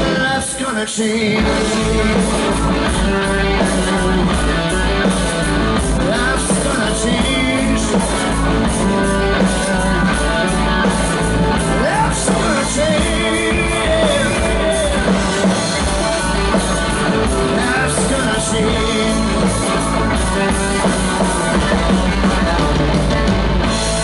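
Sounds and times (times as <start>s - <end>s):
bass guitar: 0.0s - 24.0s
drums: 0.0s - 24.0s
electric guitar: 0.0s - 24.0s
person singing: 0.0s - 24.0s.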